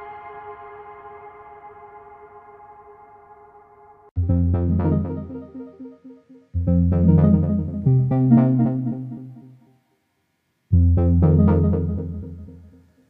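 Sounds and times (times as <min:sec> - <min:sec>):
ambient electronic music: 0:00.0 - 0:09.8, 0:10.7 - 0:13.0.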